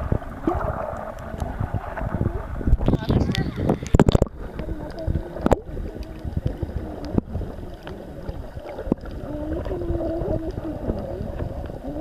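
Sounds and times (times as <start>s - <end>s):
muffled underwater noise: 0.0s - 12.0s
sharp underwater clicks: 0.4s - 11.7s.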